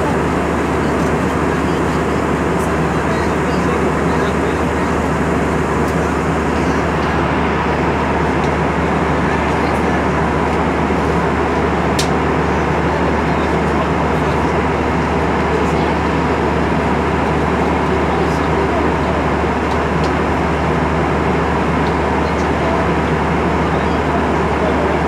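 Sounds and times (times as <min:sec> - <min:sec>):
airliner cabin noise: 0:00.0 - 0:25.0.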